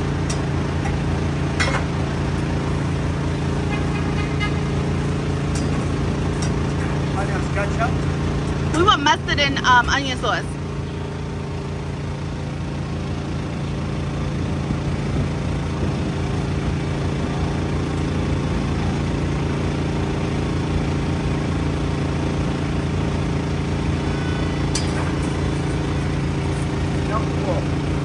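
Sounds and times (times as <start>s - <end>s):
engine idling: 0.0s - 28.0s
street noise: 0.0s - 28.0s.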